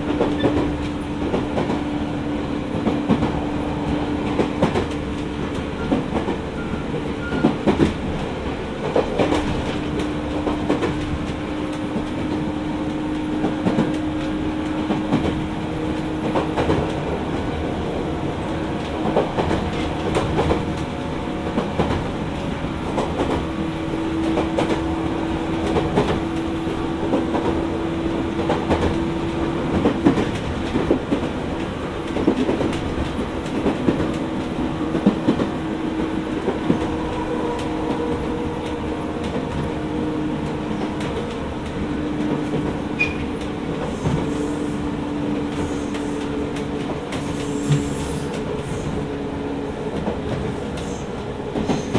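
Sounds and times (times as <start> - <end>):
train wheels clacking over rail joints: 0.0 - 1.9, 2.7 - 17.5, 18.5 - 51.9
train motor hum: 0.0 - 51.9.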